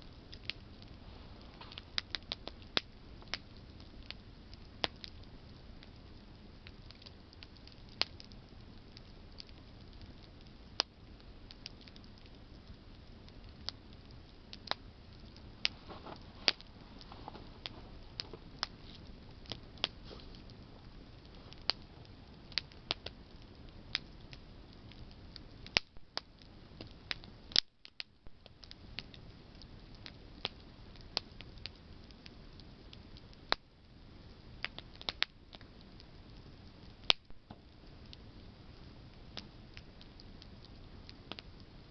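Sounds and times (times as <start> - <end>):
campfire crackling: 0.0 - 41.9.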